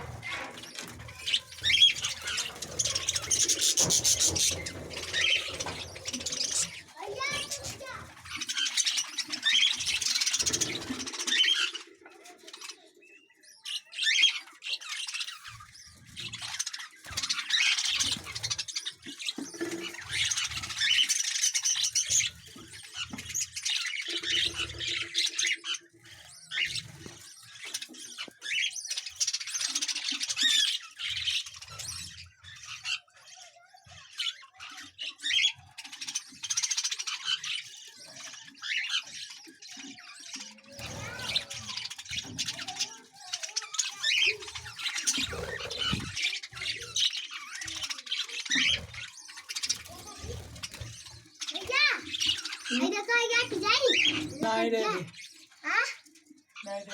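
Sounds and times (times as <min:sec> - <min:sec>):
budgerigars chattering and squawking: 0:00.0 - 0:56.9.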